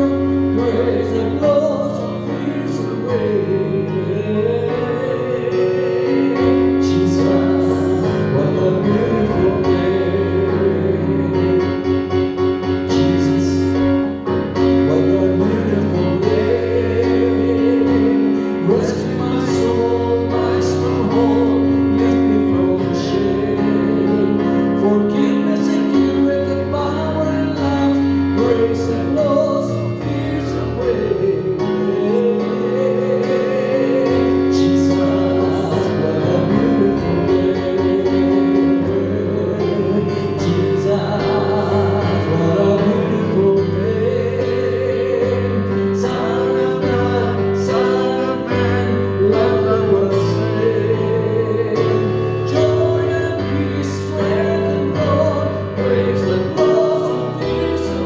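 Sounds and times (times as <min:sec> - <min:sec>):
people singing: 0:00.0 - 0:58.0.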